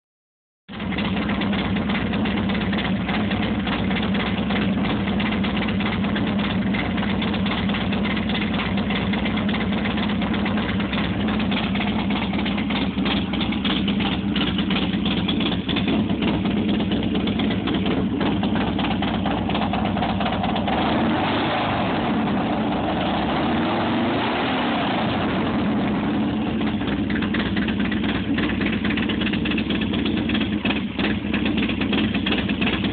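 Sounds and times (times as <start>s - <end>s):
motorcycle engine idling loudly: 0.7s - 32.9s
motorcycle engine revving: 0.7s - 32.9s.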